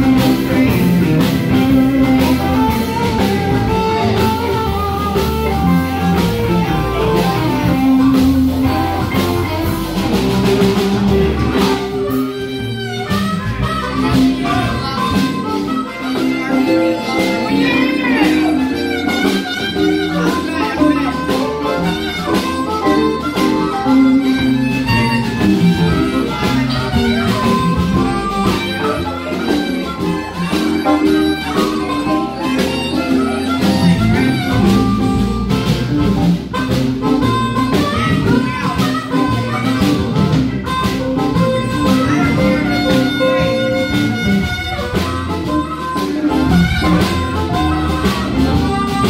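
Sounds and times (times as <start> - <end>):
harmonica wailing: 0.0 - 49.0
live blues band playing: 0.0 - 49.0.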